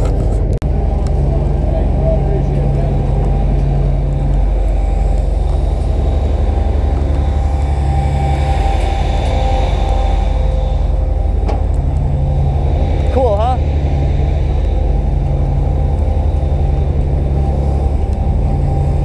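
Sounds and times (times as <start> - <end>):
boat engines droning: 0.0 - 19.0
wind: 0.0 - 19.0.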